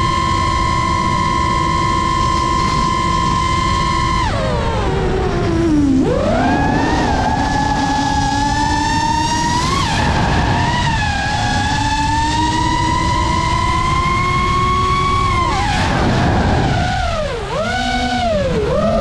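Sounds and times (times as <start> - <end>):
quadcopter motors whining: 0.0 - 19.0
rush of wind: 0.0 - 19.0.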